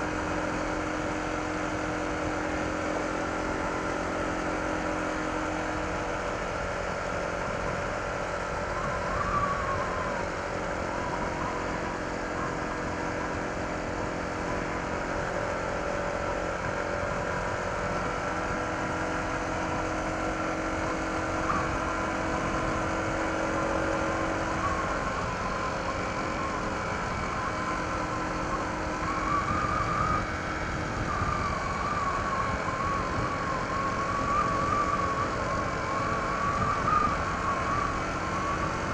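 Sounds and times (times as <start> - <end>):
road noise: 0.0 - 38.9
thin wavering whistle: 0.0 - 38.9
wind: 0.0 - 38.9.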